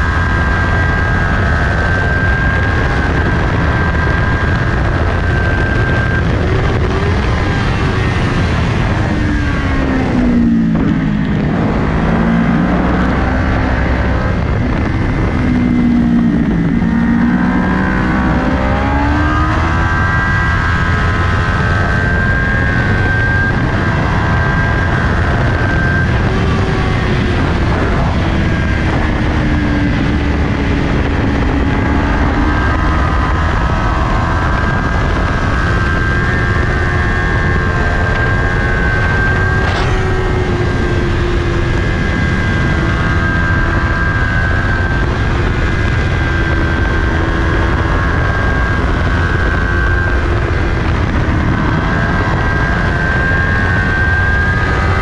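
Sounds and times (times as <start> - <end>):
motorcycle engine at high revs: 0.0 - 55.0
wind rush: 0.0 - 55.0.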